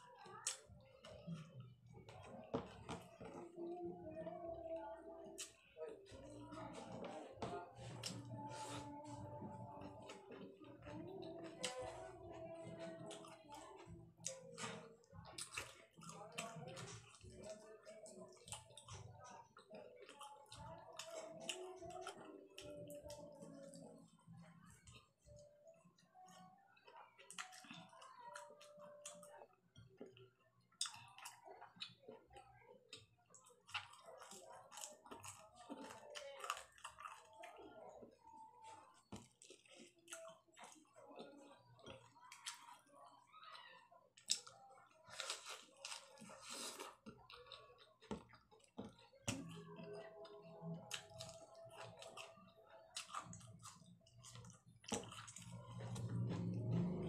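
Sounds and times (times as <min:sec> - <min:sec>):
person chewing food: 0:04.7 - 0:25.5, 0:26.2 - 0:29.5, 0:30.8 - 0:32.2, 0:32.9 - 0:42.8, 0:44.2 - 0:57.0.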